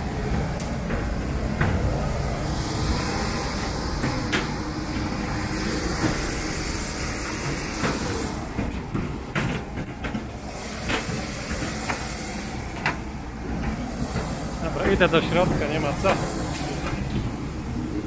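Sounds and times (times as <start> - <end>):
airport apron hiss and rumble: 0.0 - 18.0.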